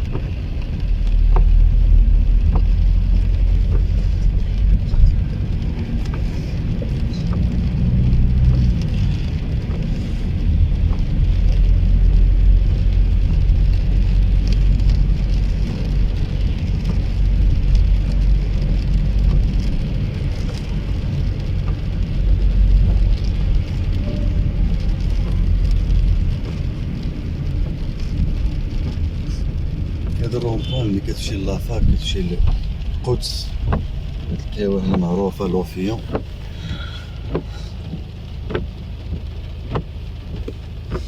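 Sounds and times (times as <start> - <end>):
car engine and tyres on wet road: 0.0 - 41.0
rain hitting car: 0.0 - 41.0.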